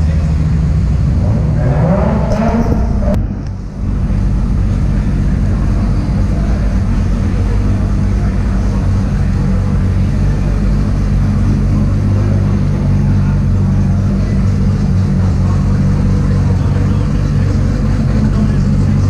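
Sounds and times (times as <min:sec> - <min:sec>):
car engines idling: 0:00.0 - 0:19.0.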